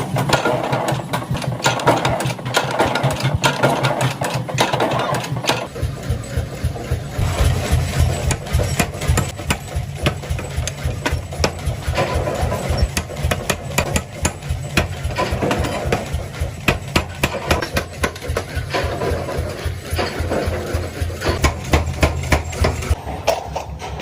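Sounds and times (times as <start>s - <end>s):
metal strikes on hot metal: 0.0s - 23.0s
forging machinery pulsing: 0.0s - 23.8s.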